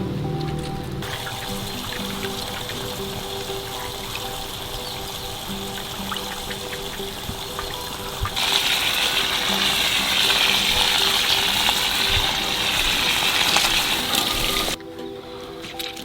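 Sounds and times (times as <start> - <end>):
faint background music: 0.0 - 16.0
water pouring: 0.1 - 14.8.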